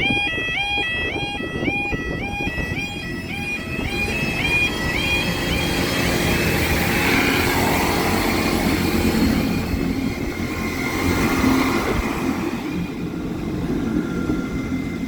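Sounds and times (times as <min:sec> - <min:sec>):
diesel train engine rumble: 0:00.0 - 0:15.0
rail and wheel noise: 0:00.0 - 0:15.0.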